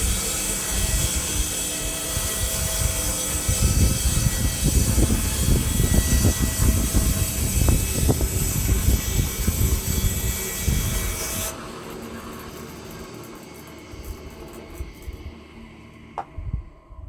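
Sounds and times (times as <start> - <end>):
sawmill engine running: 0.0 - 16.6.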